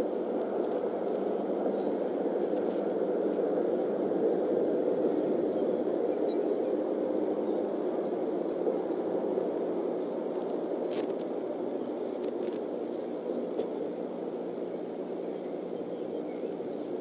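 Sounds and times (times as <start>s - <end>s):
steady rushing background noise: 0.0s - 17.0s.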